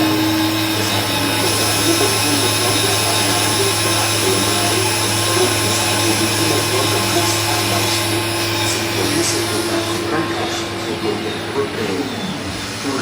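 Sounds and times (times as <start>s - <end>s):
machine motor hum and whir: 0.0s - 13.0s.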